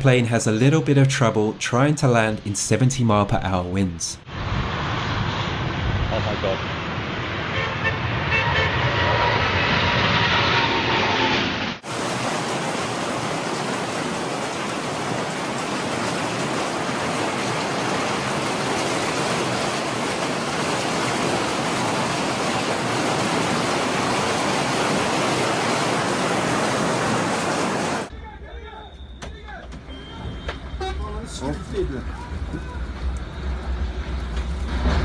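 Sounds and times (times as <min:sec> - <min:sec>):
storm rushing noise: 0:00.0 - 0:28.1, 0:31.2 - 0:35.0.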